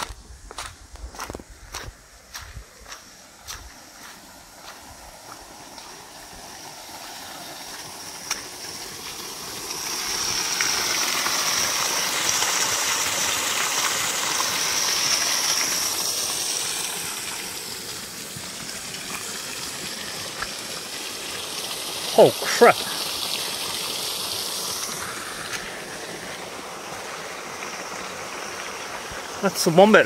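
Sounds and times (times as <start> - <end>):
water gushing from pipe: 3.4 - 30.0.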